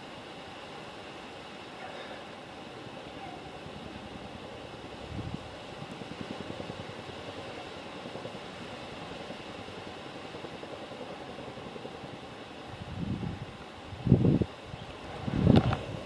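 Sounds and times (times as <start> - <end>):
helicopter rotors pulsing: 0.0 - 16.0.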